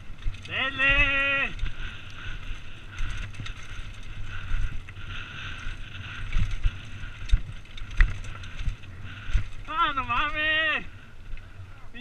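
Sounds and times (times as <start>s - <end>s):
mountain bike rattling and knocking: 0.0s - 10.9s
wind rumble on microphone: 0.0s - 12.0s.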